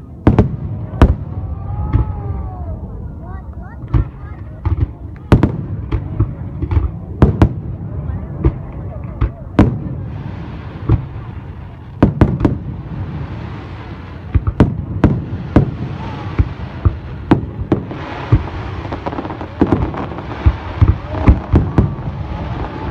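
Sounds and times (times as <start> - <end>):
fireworks bangs: 0.0 - 2.8, 3.7 - 22.9.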